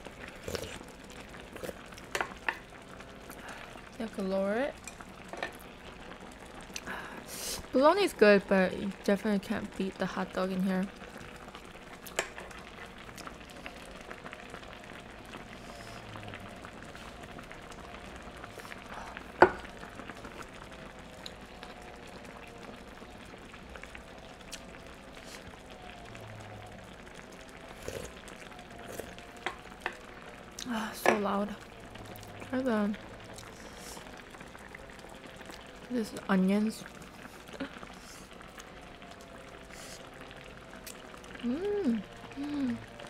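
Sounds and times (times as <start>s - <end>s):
stew bubbling and sizzling: 0.0s - 43.0s.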